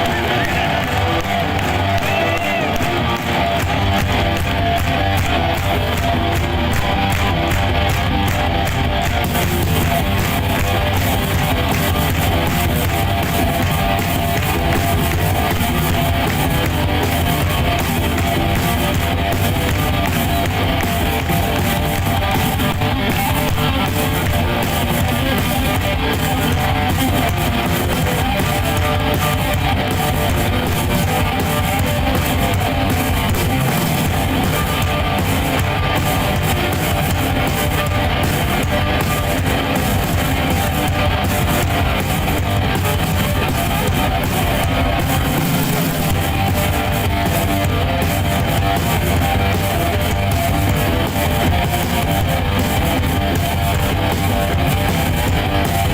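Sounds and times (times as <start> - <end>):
drums: 0.0 - 55.9
rock band playing live: 0.0 - 55.9
strummed electric guitar: 0.0 - 55.9.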